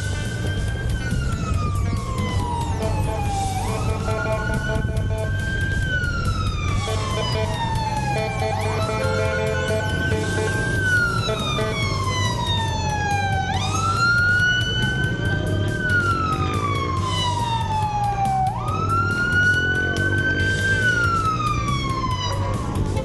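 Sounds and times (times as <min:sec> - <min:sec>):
vehicle siren wailing: 0:00.0 - 0:23.0.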